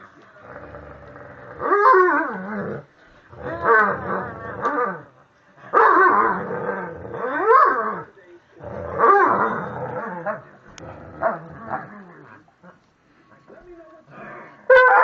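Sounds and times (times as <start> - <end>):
dog growling in play: 0.4 - 5.1, 5.7 - 12.8, 14.1 - 14.8.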